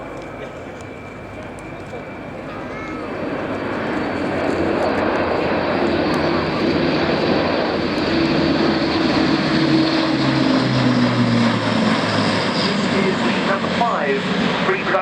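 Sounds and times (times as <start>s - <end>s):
turboprop aircraft flying past: 0.0s - 15.0s.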